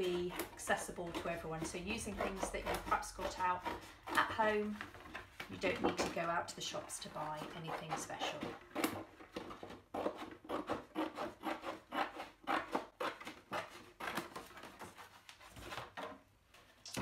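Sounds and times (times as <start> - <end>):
scissors cutting cardboard: 0.0 - 16.2.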